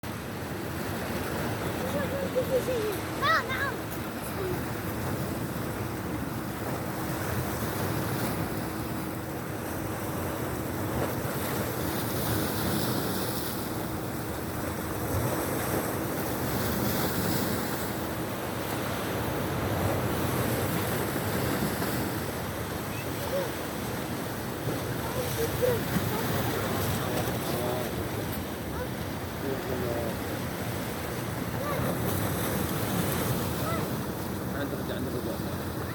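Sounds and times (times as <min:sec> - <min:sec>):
sea waves washing ashore: 0:00.0 - 0:35.9.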